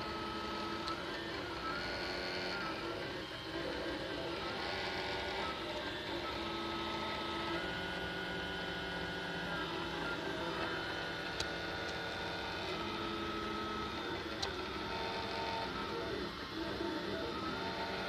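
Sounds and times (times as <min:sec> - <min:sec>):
printer motors whining: 0:00.0 - 0:18.0.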